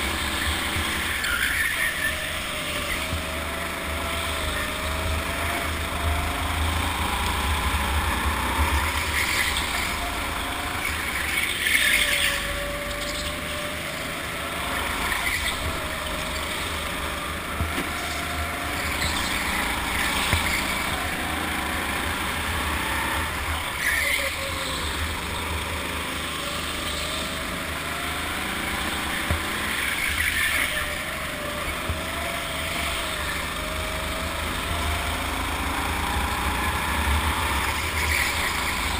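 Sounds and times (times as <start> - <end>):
go-kart motor: 0.0 - 38.9.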